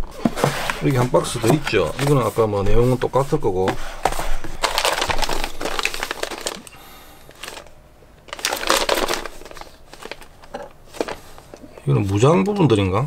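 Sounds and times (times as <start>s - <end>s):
plastic bags crinkling: 0.0s - 12.7s.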